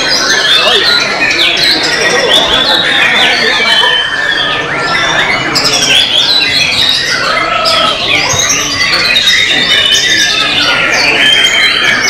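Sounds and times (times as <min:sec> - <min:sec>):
other birds singing: 0:00.0 - 0:12.0.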